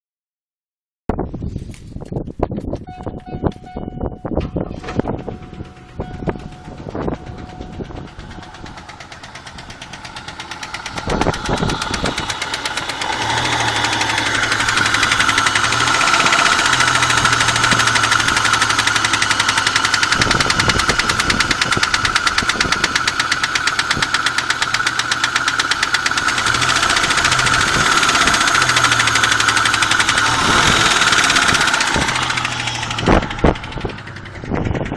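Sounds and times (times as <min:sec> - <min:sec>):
engine knocking: 0:04.7 - 0:34.9.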